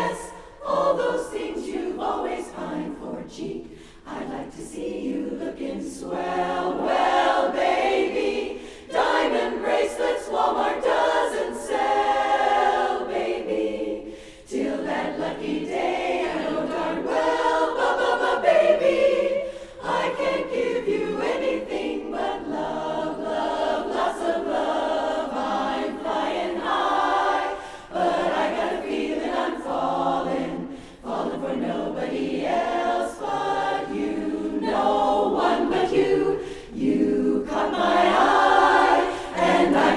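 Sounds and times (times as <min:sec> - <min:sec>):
a cappella chorus singing: 0:00.0 - 0:39.9.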